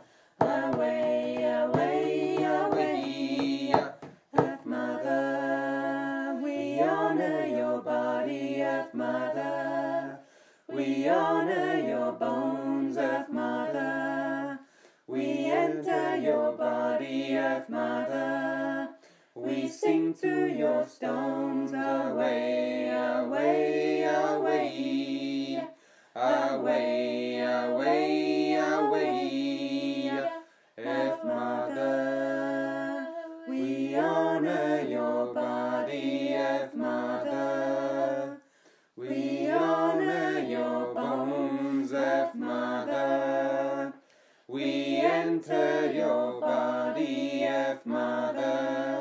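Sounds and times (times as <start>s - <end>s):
voices singing a chant: 0.0s - 49.0s.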